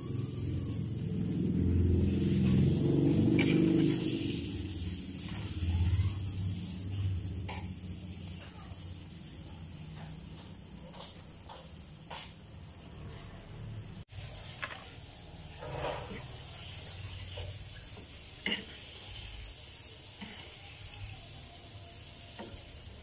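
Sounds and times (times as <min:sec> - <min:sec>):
crabs sizzling in hot oil: 0:00.0 - 0:23.0.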